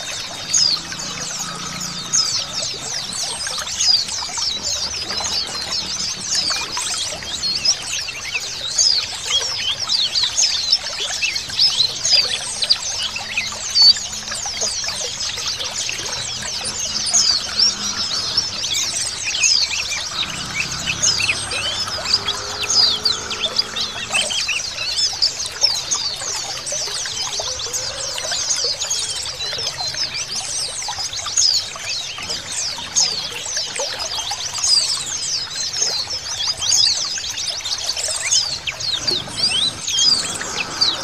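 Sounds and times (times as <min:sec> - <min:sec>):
flock of birds chirping: 0:00.0 - 0:41.0
trickle of running water: 0:00.0 - 0:41.0.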